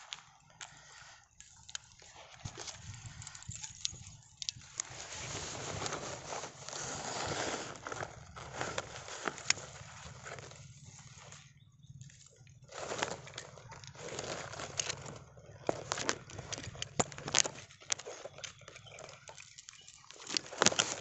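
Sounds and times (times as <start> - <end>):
dry grass rustling: 0.0 - 21.0.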